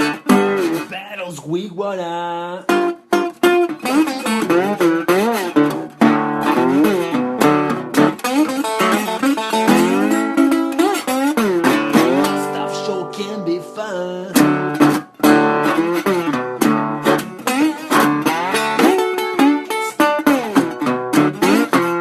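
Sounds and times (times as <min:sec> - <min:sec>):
blues slide guitar solo: 0:00.0 - 0:01.4, 0:02.3 - 0:22.0.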